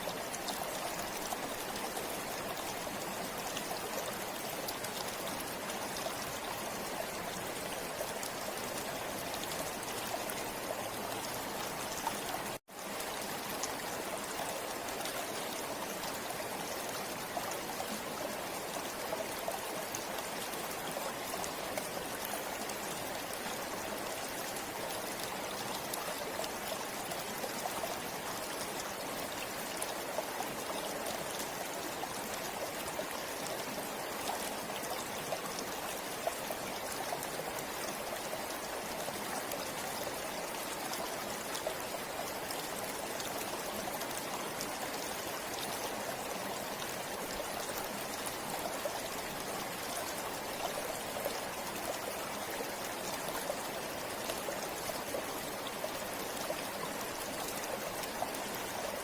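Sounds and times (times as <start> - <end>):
river water rushing over stones: 0.0 - 59.0.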